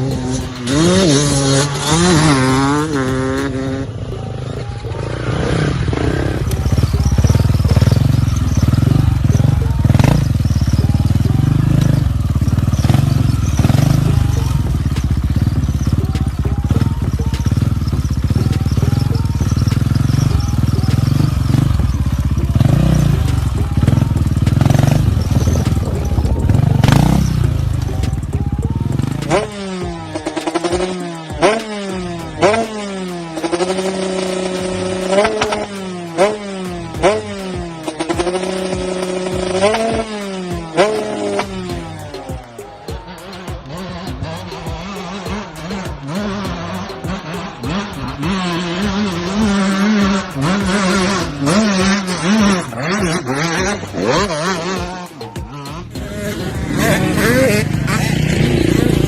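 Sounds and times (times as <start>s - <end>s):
off-road motorbike engines revving: 0.0s - 59.0s.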